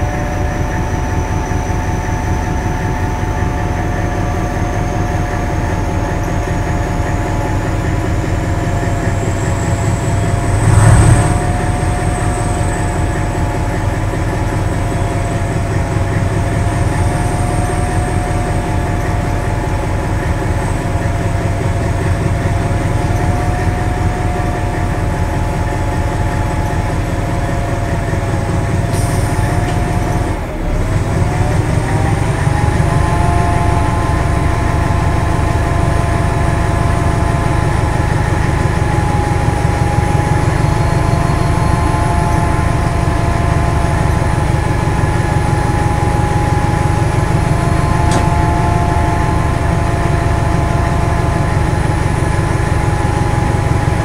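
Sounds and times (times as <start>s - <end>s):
diesel train engine running: 0.0s - 54.0s.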